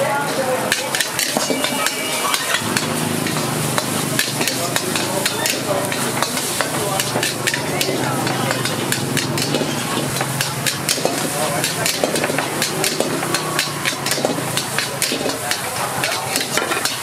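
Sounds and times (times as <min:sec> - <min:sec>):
metal spatula scraping wok: 0:00.0 - 0:17.0
oil sizzling: 0:00.0 - 0:17.0.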